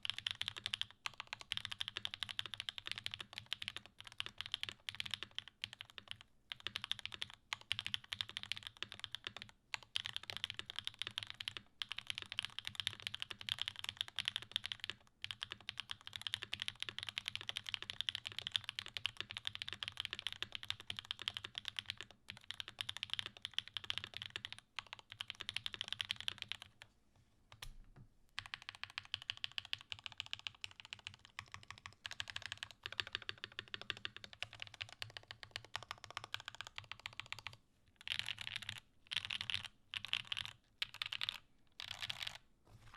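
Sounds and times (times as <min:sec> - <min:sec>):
mechanical keyboard typing: 0:00.0 - 0:26.8, 0:28.4 - 0:42.4.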